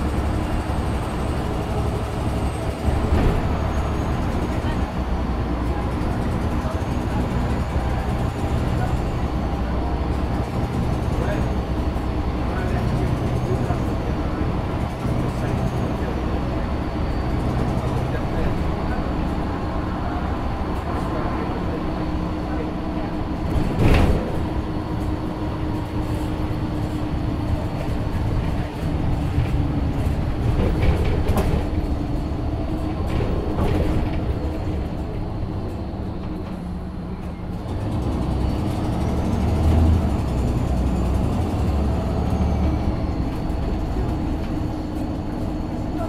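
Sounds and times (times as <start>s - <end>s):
bus body rattle: 0.0s - 46.0s
bus diesel engine running: 0.0s - 46.0s
road noise: 0.0s - 46.0s.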